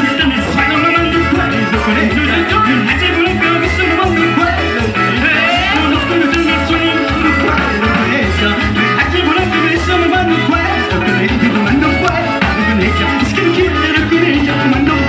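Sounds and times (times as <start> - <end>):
bass beat: 0.0 - 15.0
live band playing dance music: 0.0 - 15.0
person singing: 0.0 - 15.0.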